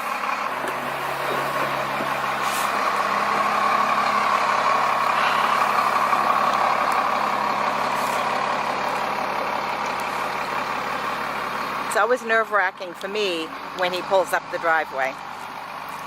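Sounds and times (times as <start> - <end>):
motorhome engine running: 0.0 - 16.0.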